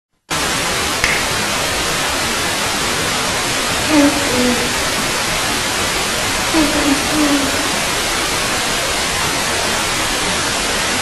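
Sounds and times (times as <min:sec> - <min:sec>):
static hiss: 0:00.3 - 0:11.0.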